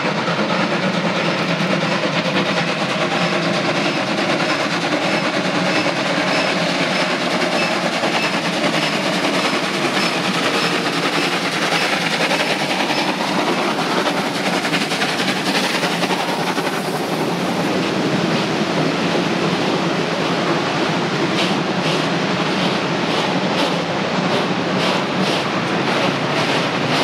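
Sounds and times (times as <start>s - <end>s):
freight train wheels clattering: 0.0s - 27.0s.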